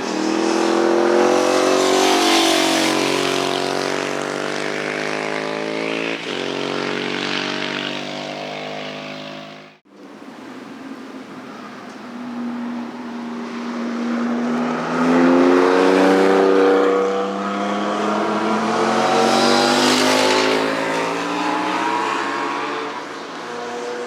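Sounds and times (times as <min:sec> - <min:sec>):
motorcycles passing at speed: 0:00.0 - 0:09.8, 0:12.2 - 0:24.0.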